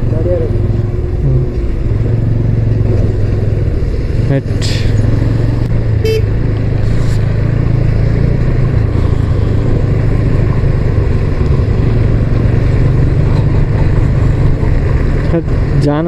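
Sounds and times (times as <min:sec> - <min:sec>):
motorcycle engine hum: 0:00.0 - 0:16.0
wind and road noise: 0:00.0 - 0:16.0.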